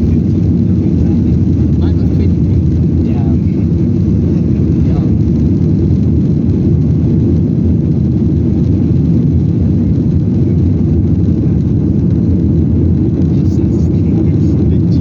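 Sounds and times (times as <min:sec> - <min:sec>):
jet engines at high power: 0:00.0 - 0:15.0.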